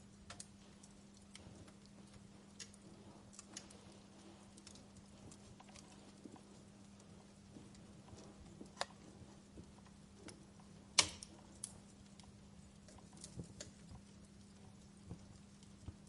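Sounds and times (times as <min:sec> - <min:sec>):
faint low hum: 0:00.0 - 0:16.0
wood fire crackling and popping: 0:00.0 - 0:16.0.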